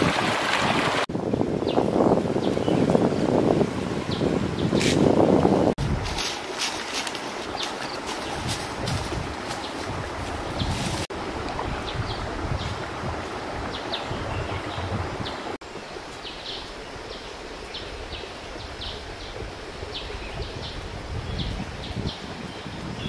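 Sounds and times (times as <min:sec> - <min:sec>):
wind on microphone: 0:00.0 - 0:15.6, 0:17.7 - 0:23.0.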